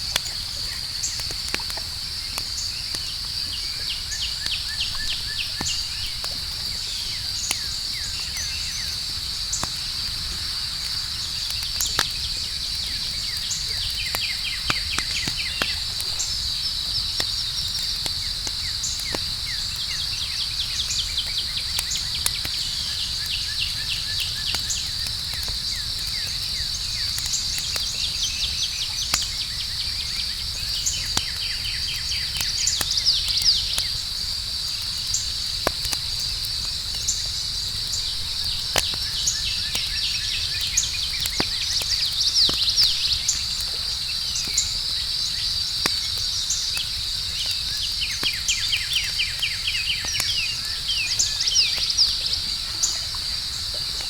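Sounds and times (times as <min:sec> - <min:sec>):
campfire crackling: 0:00.0 - 0:54.0
cricket chorus: 0:00.0 - 0:54.0.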